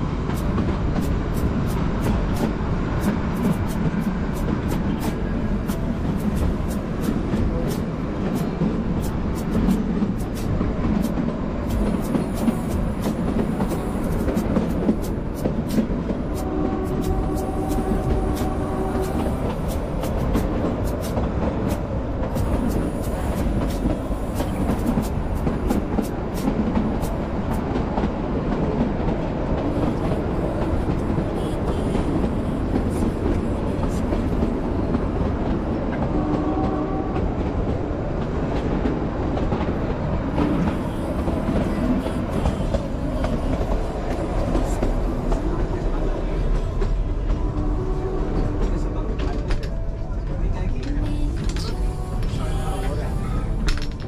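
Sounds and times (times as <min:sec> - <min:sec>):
train wheels clicking on rails: 0:00.0 - 0:54.0.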